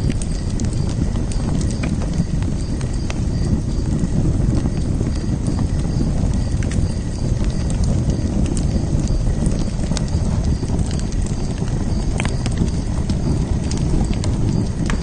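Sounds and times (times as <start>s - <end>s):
fire pops: 0.0s - 15.0s
wood fire crackling: 0.0s - 15.0s.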